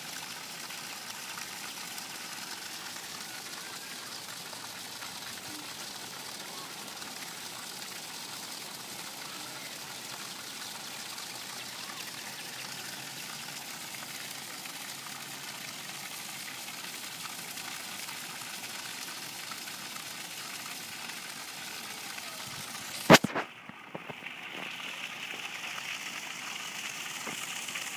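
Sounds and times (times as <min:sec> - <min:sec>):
flowing water rushing: 0:00.0 - 0:27.9.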